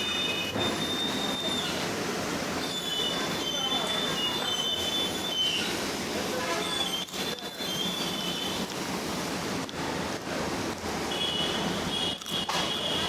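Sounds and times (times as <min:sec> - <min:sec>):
spraying water hiss: 0:00.0 - 0:13.0.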